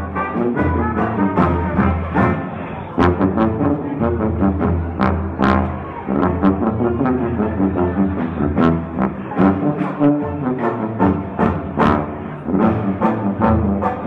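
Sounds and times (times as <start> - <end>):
trombone trumpet and clarinet: 0.0 - 14.0.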